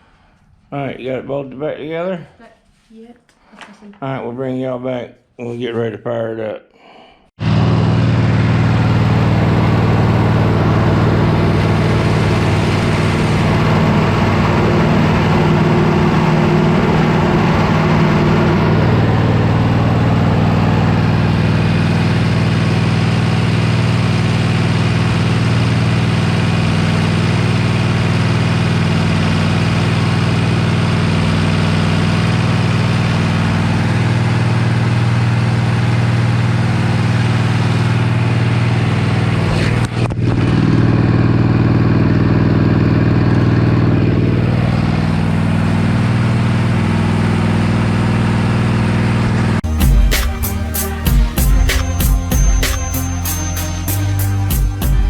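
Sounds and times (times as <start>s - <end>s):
riding lawn mower engine running: 7.4s - 55.0s.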